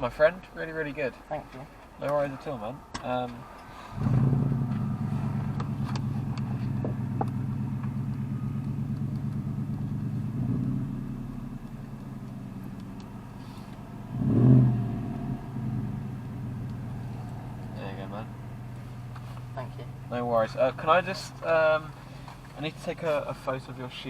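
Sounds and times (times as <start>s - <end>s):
car engine running: 3.8s - 24.0s.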